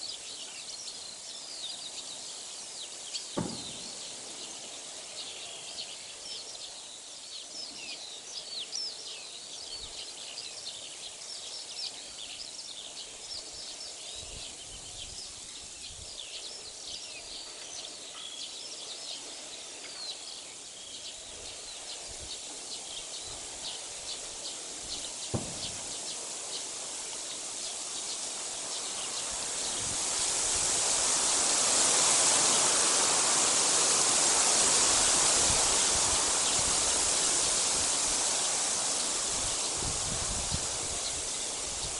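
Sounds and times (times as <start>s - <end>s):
songbirds chirping: 0.0s - 41.9s
steady rushing hiss: 0.0s - 41.9s.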